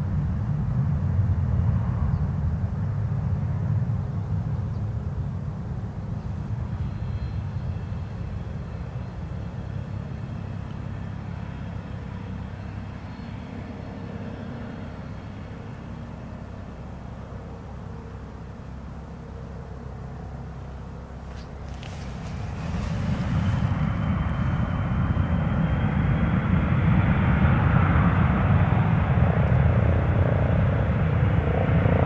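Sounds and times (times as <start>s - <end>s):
high turbine whine: 0.0s - 32.0s
jet engines low rumble: 0.0s - 32.0s.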